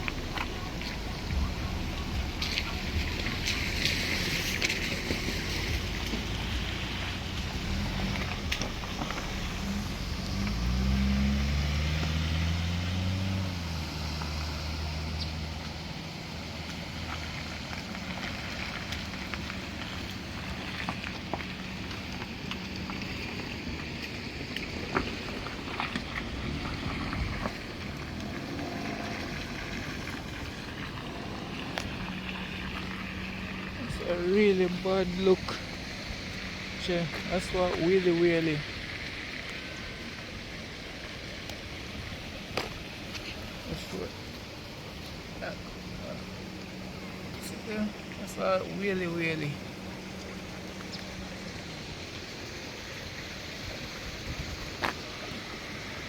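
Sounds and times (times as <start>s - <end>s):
background noise: 0.0s - 56.0s
vehicle engine revving: 0.0s - 56.0s.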